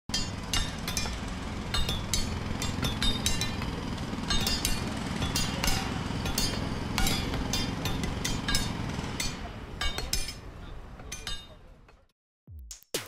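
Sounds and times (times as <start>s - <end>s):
sharp metallic clinks: 0.1s - 12.0s.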